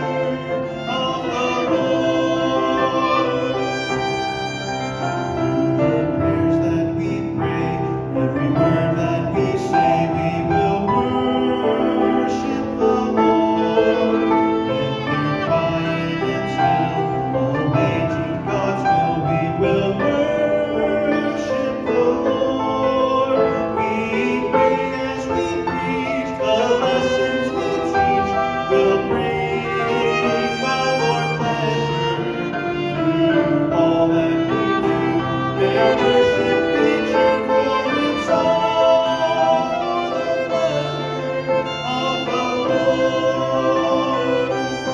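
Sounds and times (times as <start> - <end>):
sacred ensemble music: 0.0 - 44.9.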